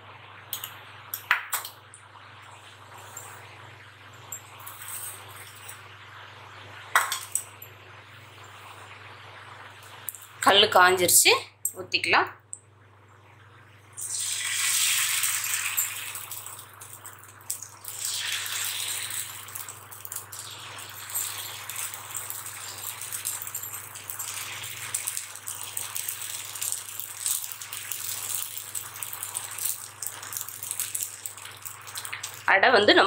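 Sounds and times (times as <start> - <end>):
batter sizzling on a griddle: 0.0 - 11.1, 13.3 - 32.6.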